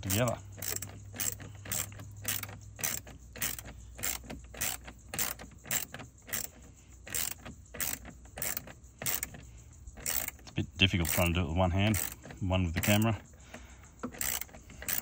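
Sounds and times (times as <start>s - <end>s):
hand ratchet clicking: 0.0s - 15.0s.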